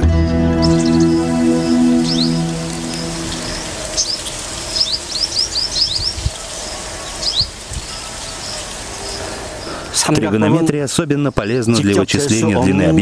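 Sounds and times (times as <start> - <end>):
steady outdoor hiss: 0.0 - 13.0
small birds chirping: 0.2 - 13.0.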